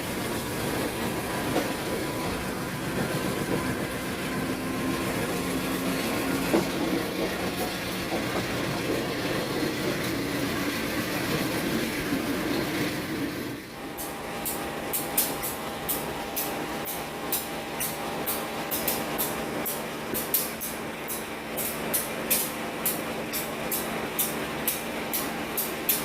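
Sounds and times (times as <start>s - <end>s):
diesel locomotive engine droning: 0.0s - 26.0s.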